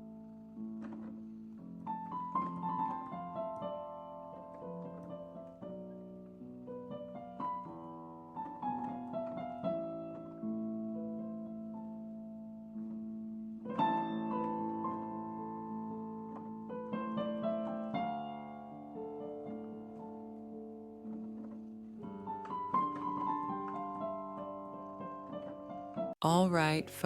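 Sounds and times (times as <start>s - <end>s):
piano playing gentle melody: 0.0s - 27.0s.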